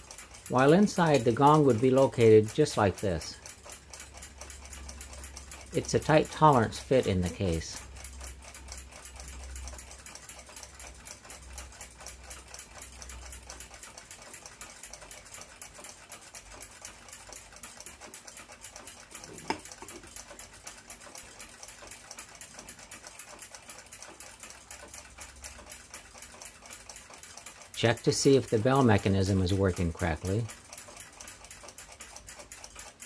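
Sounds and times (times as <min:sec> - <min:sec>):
clock ticking rapidly: 0:00.0 - 0:33.0.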